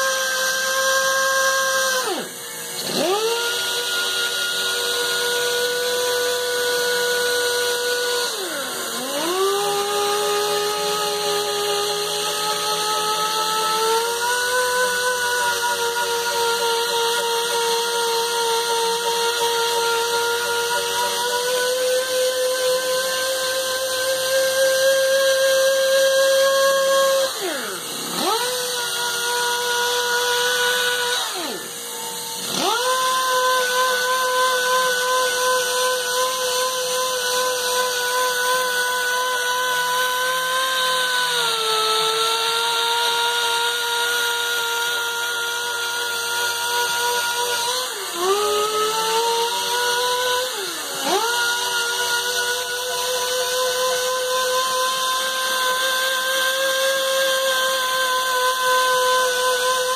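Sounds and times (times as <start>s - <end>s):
sander whining: 0.0s - 59.9s.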